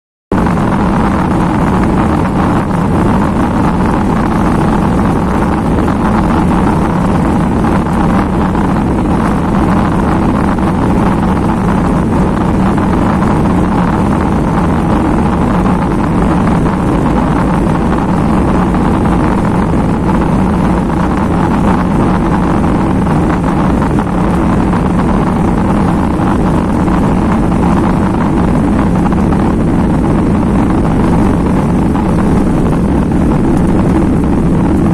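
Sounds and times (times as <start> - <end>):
jet engines at takeoff power: 0.3 - 34.9.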